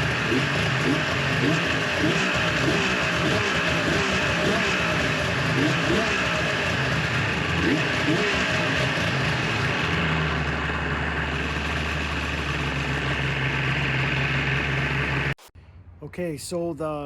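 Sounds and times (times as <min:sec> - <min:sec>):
snowmobile engine idling: 0:00.0 - 0:15.5.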